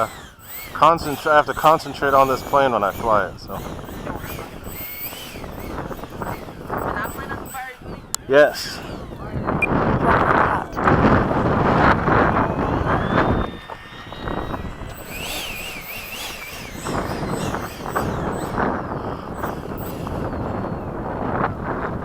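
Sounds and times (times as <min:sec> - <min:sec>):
wavering high tone: 0:00.0 - 0:20.9
rc jet fan whine: 0:00.0 - 0:22.0
wind gusting on microphone: 0:00.0 - 0:22.0.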